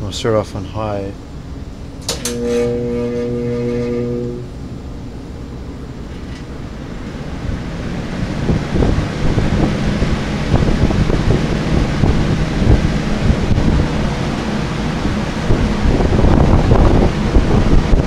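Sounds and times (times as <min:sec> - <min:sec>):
box fan blowing air: 0:00.0 - 0:18.0
faint motor hum: 0:00.0 - 0:18.0.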